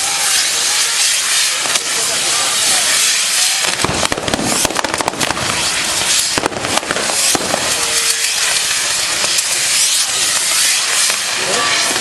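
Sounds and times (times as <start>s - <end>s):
firecrackers crackling: 0.0s - 12.0s
hiss of burning fireworks: 0.0s - 12.0s.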